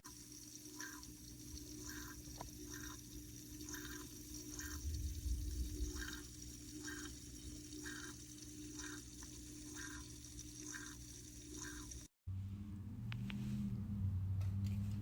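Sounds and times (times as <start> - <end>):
pump humming: 0.0 - 12.1
water gurgle: 0.0 - 12.1
water trickling over rocks: 0.0 - 12.1.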